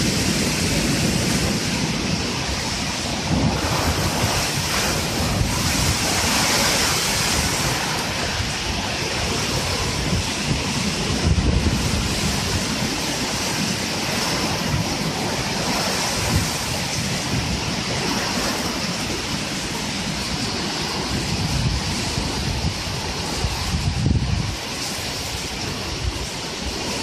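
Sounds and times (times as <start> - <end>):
heavy rain hissing: 0.0 - 27.0
wind buffeting microphone: 0.0 - 27.0.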